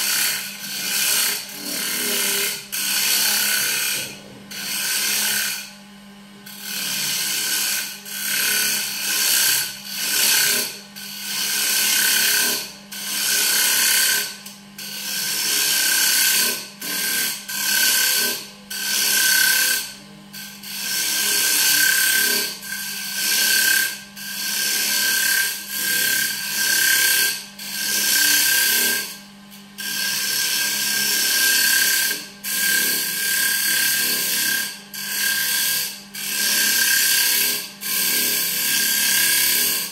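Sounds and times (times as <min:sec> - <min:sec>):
turning tool scraping wood: 0:00.0 - 0:05.7, 0:06.5 - 0:39.9
wood lathe whine and hum: 0:00.0 - 0:39.9.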